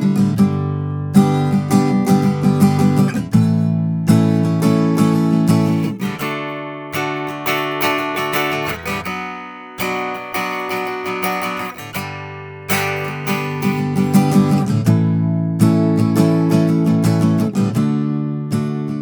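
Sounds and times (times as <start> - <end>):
acoustic guitar strummed chords: 0.0 - 19.0.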